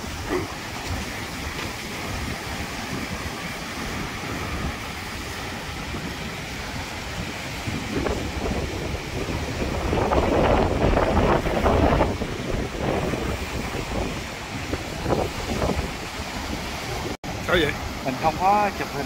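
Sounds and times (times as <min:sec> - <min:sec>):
surf breaking on rocks: 0:00.0 - 0:19.0
wind buffeting microphone: 0:00.0 - 0:19.0.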